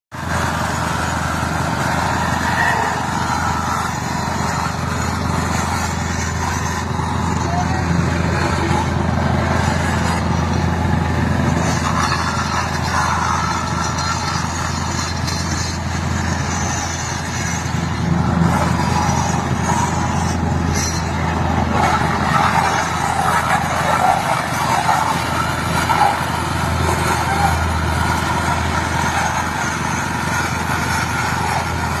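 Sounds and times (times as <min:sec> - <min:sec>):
plate vibrator engine droning: 0:00.1 - 0:32.0.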